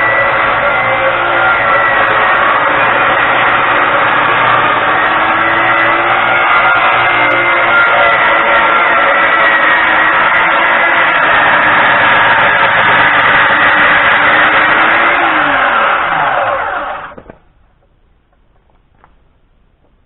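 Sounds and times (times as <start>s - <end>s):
circular saw cutting board: 0.0s - 19.1s.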